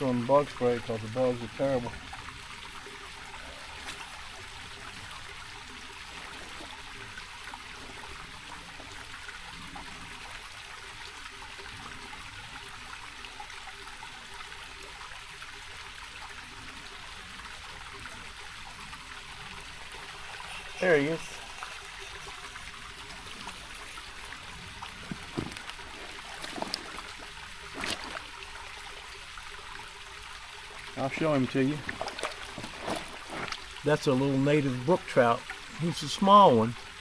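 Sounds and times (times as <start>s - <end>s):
stream trickling over rocks: 0.0s - 37.0s.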